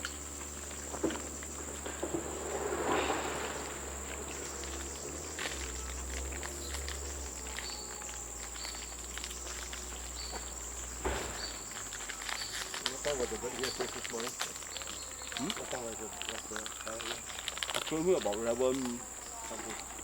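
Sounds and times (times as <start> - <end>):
high-pitched insect drone: 0.0 - 17.3
rustle: 0.0 - 20.0.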